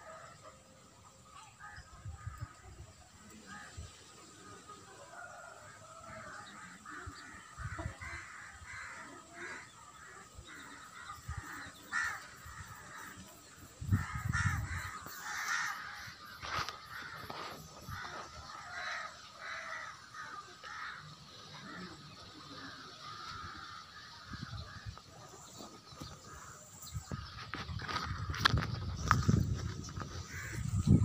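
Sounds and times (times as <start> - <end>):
birds calling: 1.2 - 31.0.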